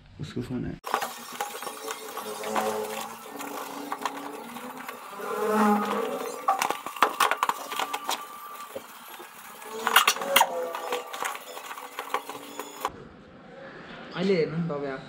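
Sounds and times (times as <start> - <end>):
wavering buzz: 0.8 - 12.9.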